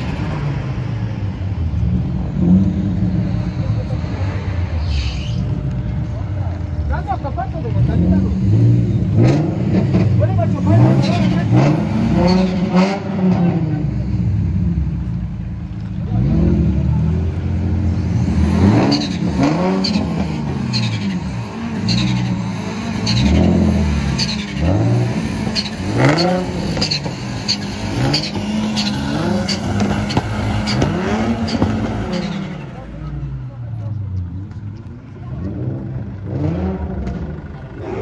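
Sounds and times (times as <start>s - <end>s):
sports car engine revving: 0.0s - 38.0s.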